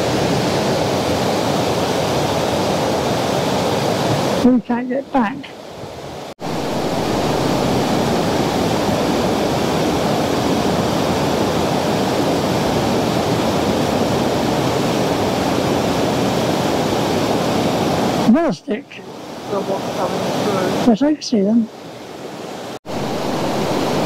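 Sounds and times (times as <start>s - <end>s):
river water rushing over rocks: 0.0s - 4.9s, 5.6s - 18.3s, 21.7s - 24.0s.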